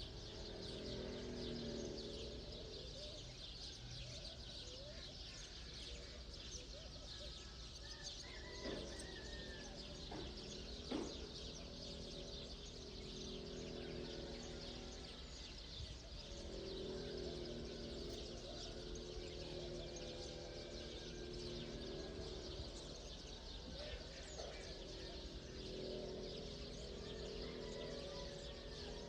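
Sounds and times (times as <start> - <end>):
longer bird call: 0.0 - 29.0
small birds chirping: 0.0 - 29.0.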